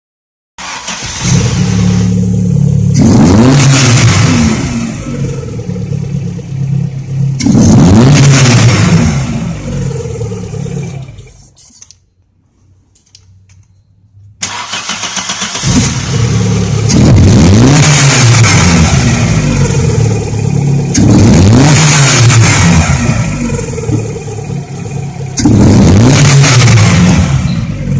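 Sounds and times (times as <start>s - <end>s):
car engine revving: 0.6s - 11.4s, 14.4s - 27.9s.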